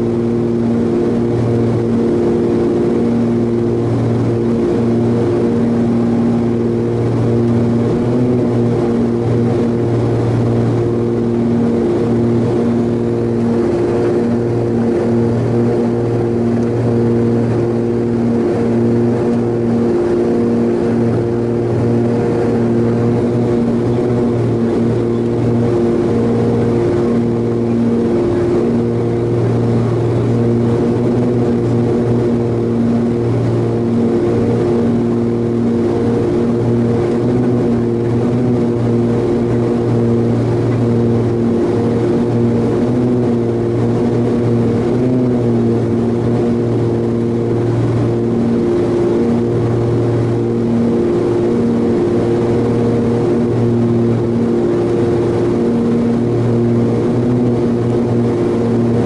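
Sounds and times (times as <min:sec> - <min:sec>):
propeller airplane engine humming: 0:00.0 - 0:59.0.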